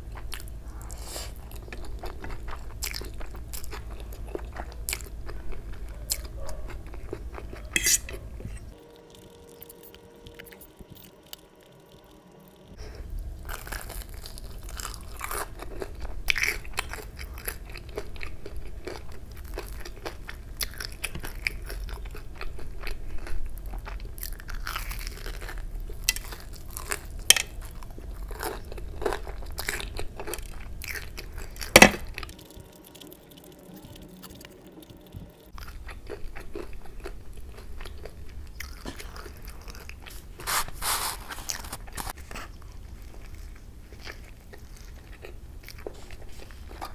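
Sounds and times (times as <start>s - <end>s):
crunchy food chewing: 0.0s - 46.9s.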